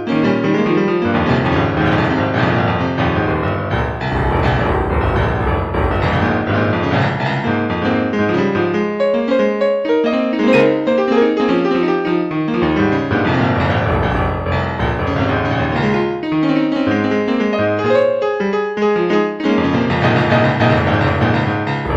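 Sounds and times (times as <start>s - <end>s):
solo piano music: 0.0s - 21.9s.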